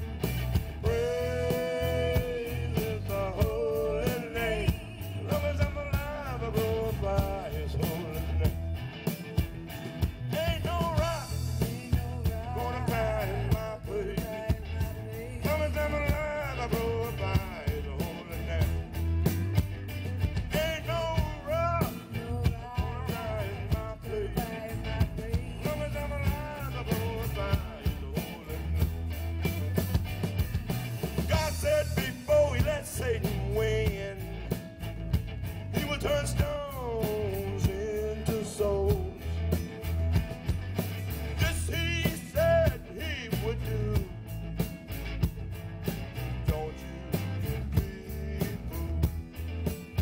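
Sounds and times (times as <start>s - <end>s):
bending lead guitar melody: 0.0s - 50.0s
live blues-rock band: 0.0s - 50.0s.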